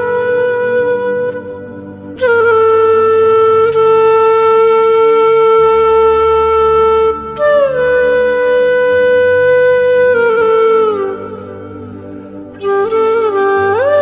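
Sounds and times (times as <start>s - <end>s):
wind instrument long notes: 0.0s - 14.0s.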